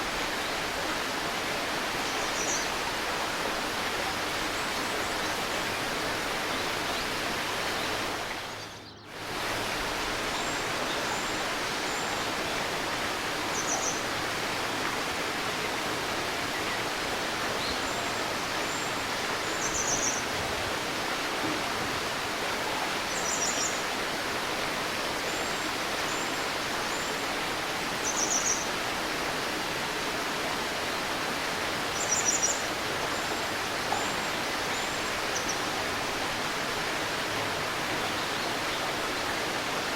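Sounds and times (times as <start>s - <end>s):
babbling river: 0.0s - 39.9s.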